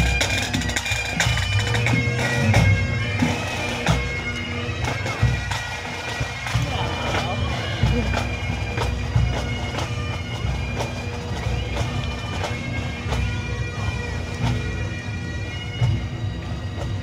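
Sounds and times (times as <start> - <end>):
bagpipes playing: 0.0 - 17.0.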